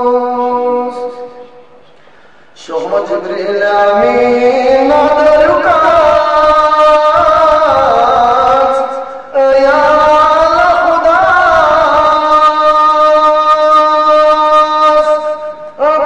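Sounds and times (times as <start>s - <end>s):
man chanting devotional song: 0.0s - 2.0s, 2.6s - 16.0s.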